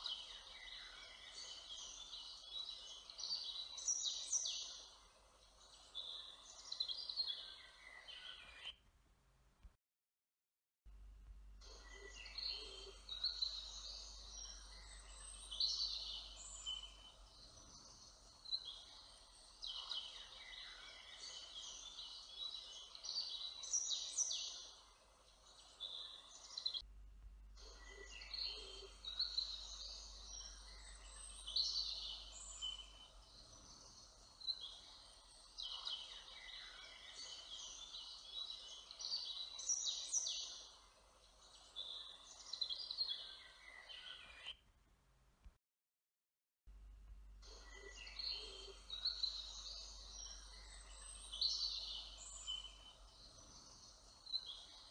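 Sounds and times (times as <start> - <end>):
songbirds chirping and trilling: 0.0 - 8.8, 11.6 - 26.8, 27.6 - 44.6, 47.4 - 54.9.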